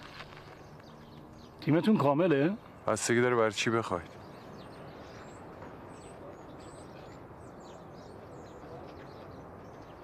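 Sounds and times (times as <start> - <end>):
birds chirping: 0.0 - 10.0
low background noise: 0.0 - 10.0.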